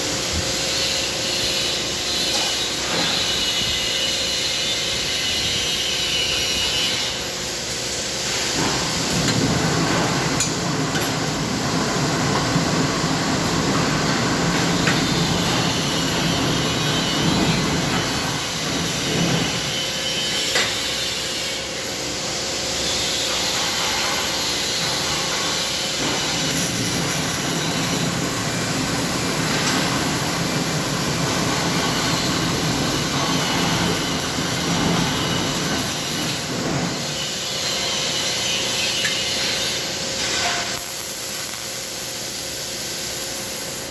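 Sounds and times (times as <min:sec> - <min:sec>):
welding hiss and crackle: 0:00.0 - 0:43.9.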